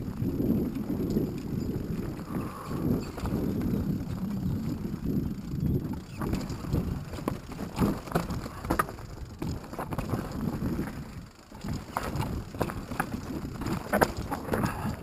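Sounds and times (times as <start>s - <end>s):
bike rattling over stones: 0.0s - 15.0s
wind on microphone: 0.0s - 15.0s.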